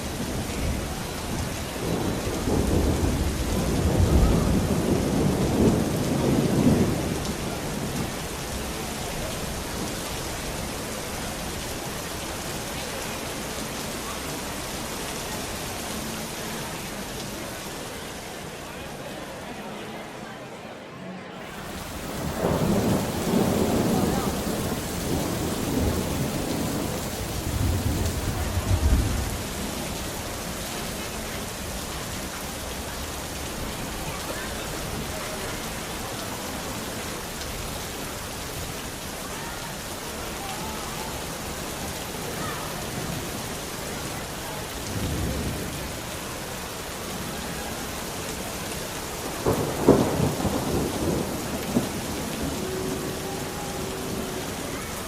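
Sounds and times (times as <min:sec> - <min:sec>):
thunder rumbling: 0:00.0 - 0:13.5, 0:21.5 - 0:39.0, 0:41.1 - 0:55.0
heavy rain: 0:00.0 - 0:55.0.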